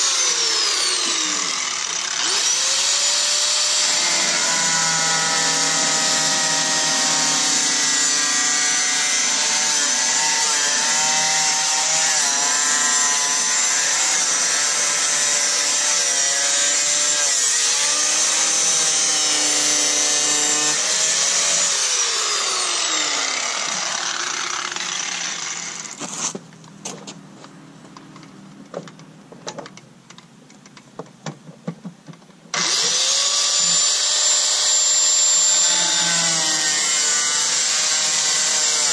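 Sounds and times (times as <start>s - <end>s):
angle grinder cutting metal: 0.0s - 26.3s, 32.5s - 38.9s.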